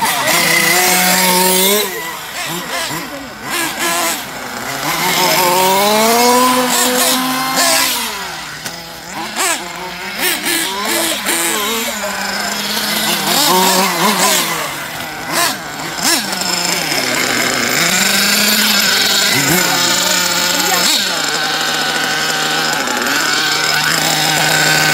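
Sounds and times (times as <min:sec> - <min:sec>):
small nitro engine revving: 0:00.0 - 0:24.9.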